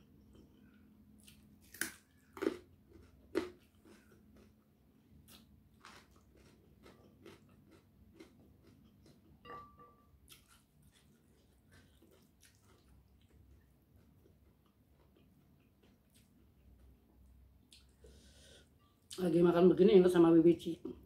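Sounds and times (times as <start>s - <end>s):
person chewing: 0.0s - 9.4s, 10.3s - 18.5s.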